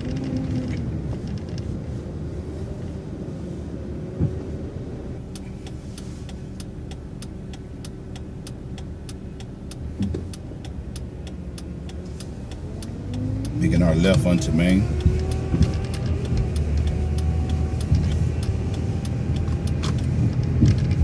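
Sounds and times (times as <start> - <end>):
bus engine running: 0.0 - 21.0
turn signal ticking: 0.0 - 21.0.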